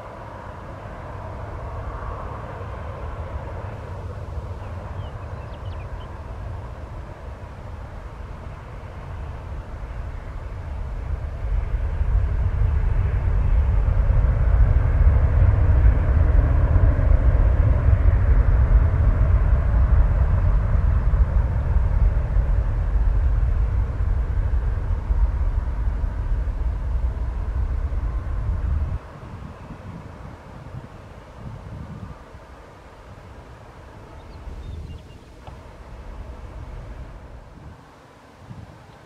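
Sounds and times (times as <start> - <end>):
jet engines rumbling on takeoff: 0.0 - 39.0.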